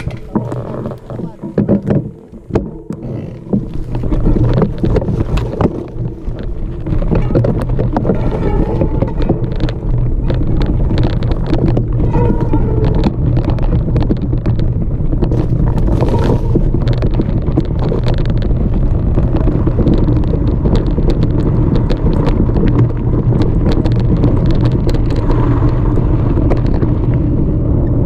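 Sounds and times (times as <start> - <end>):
rattling knocks from rough ground: 0.0 - 27.0
wind rush on microphone: 0.0 - 28.0.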